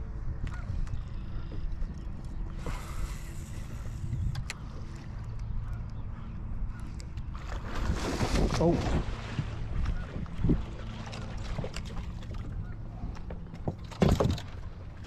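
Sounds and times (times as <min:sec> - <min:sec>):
wind rumbling on microphone: 0:00.0 - 0:05.8, 0:06.6 - 0:13.7
water lapping against boat hull: 0:00.5 - 0:15.0.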